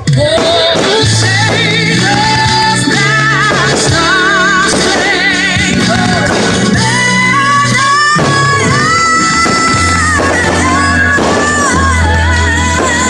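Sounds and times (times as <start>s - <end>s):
person singing with vibrato: 0.0s - 13.0s
steady musical accompaniment: 0.0s - 13.0s.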